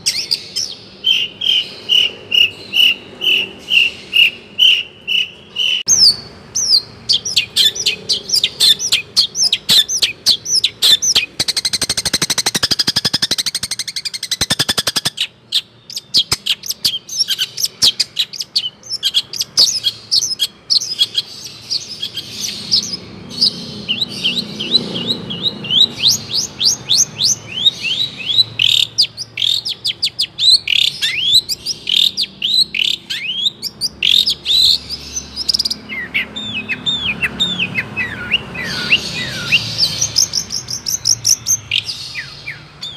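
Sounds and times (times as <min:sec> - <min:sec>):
bird singing varied chirps: 0:00.0 - 0:42.9.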